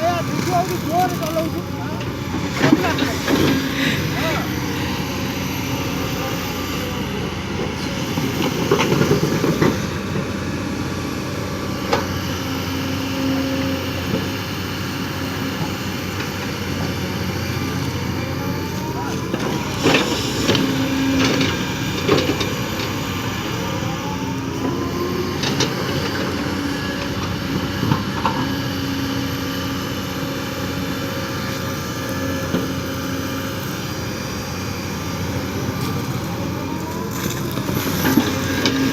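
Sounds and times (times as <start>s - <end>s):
excavator diesel engine running: 0.0s - 38.9s
hydraulic whine: 0.0s - 38.9s.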